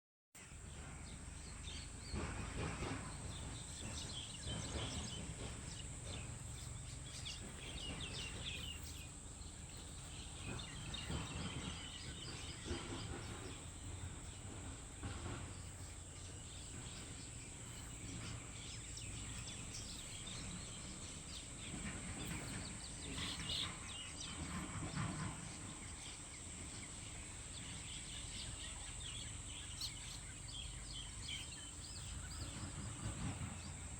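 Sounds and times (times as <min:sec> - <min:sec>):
birds chirping: 0:00.4 - 0:33.9
outdoor background noise: 0:00.4 - 0:33.9.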